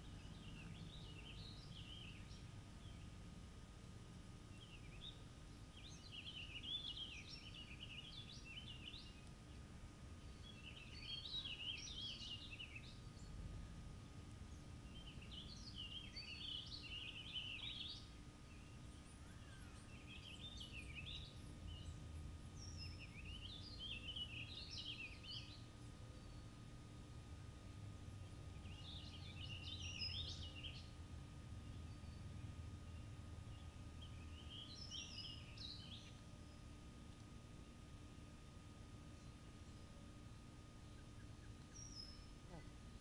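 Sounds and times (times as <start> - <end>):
faint low outdoor hum: 0.0 - 43.0.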